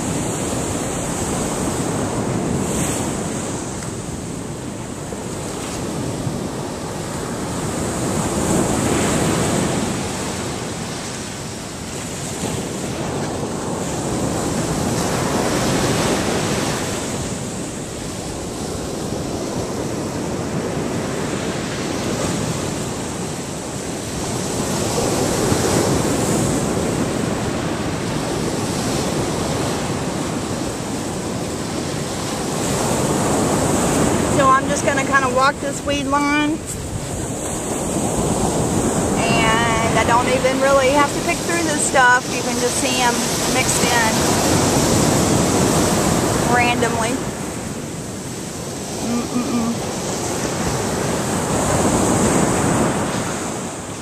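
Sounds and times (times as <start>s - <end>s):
surf washing ashore: 0.0s - 54.0s
wind on microphone: 0.0s - 54.0s.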